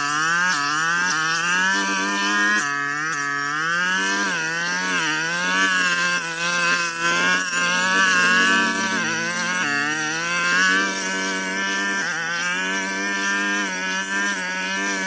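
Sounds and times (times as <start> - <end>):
brush cutter engine cutting brush: 0.0 - 15.0.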